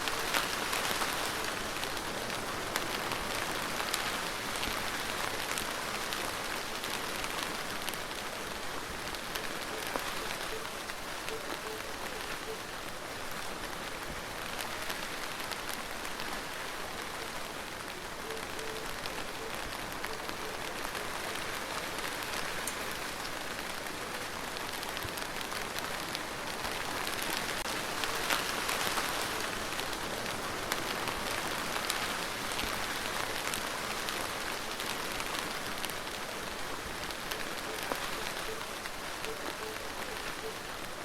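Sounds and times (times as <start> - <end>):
rain falling on a surface: 0.0 - 41.0.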